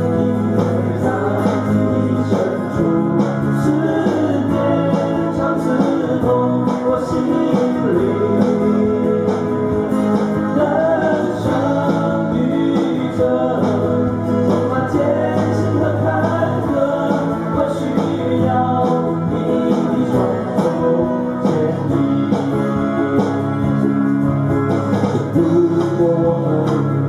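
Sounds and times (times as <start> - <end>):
man singing into a microphone: 0.0 - 23.4, 25.2 - 27.0
acoustic guitars playing: 0.0 - 27.0.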